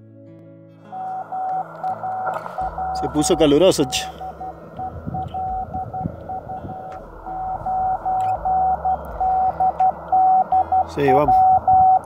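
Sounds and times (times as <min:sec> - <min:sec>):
morse code tone: 0:00.9 - 0:12.0
radio receiver hiss: 0:01.0 - 0:12.0.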